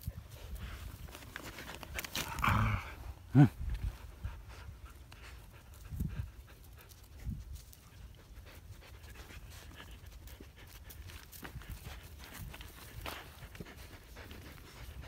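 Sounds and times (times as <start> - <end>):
dog panting and sniffing: 0.0 - 2.4, 3.4 - 15.0.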